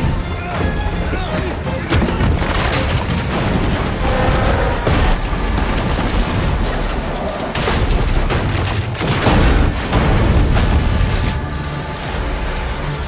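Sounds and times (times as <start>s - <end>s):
wreckage rumbling and crashing: 0.0s - 13.0s
heavy impacts and booms: 1.9s - 12.6s.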